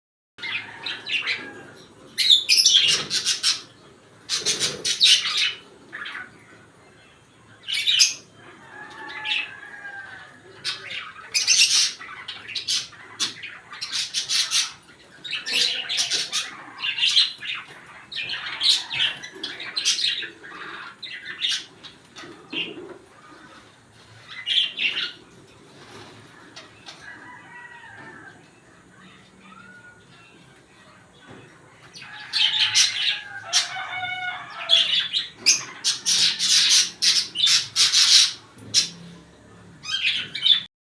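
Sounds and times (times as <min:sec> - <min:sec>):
lovebirds chirping and squawking: 0:00.4 - 0:40.7.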